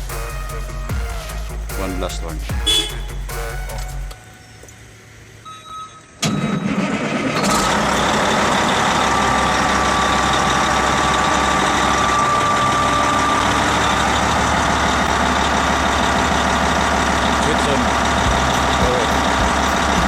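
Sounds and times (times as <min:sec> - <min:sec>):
bulldozer diesel engine starting and idling: 0:00.0 - 0:20.0.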